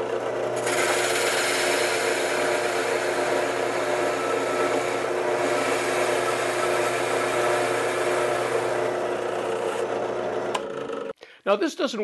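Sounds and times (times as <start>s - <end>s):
drill press motor hum: 0.0s - 11.2s
drill bit rasping into wood: 0.4s - 10.6s.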